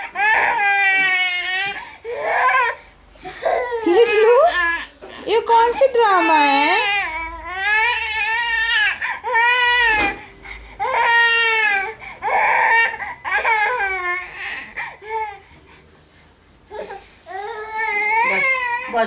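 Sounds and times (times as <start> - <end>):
baby crying: 0.0 - 15.4, 16.7 - 19.0.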